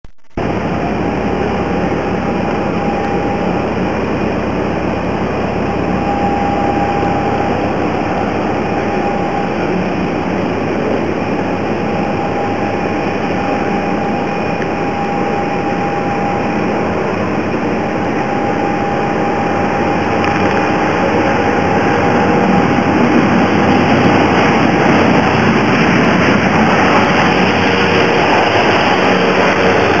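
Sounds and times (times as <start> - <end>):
jet engines rushing with whine: 0.3 - 30.0.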